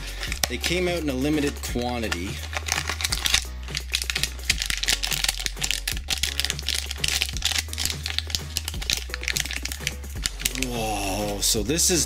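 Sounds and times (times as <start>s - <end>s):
foil wrapper crinkling: 0.0s - 11.5s
light background music: 0.0s - 12.0s.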